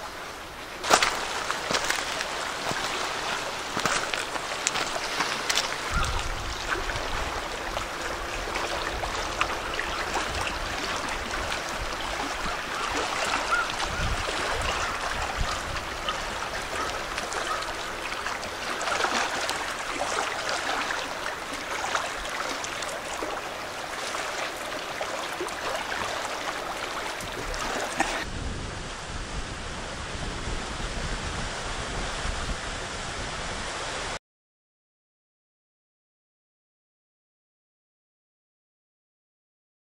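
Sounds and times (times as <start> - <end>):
wind buffeting microphone: 0.0 - 24.8, 25.4 - 34.2
small waves washing on shore: 0.0 - 34.2.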